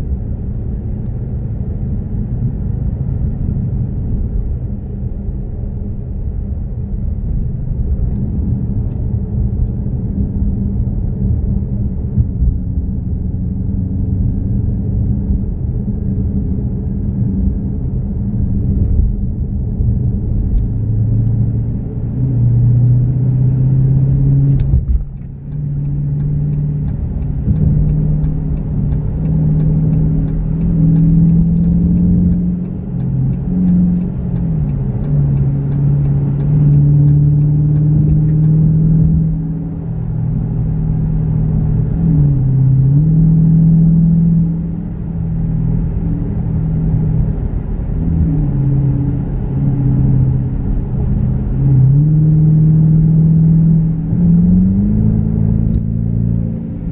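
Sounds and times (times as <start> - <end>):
car engine at speed: 0.0 - 56.9
road rumble: 0.0 - 56.9.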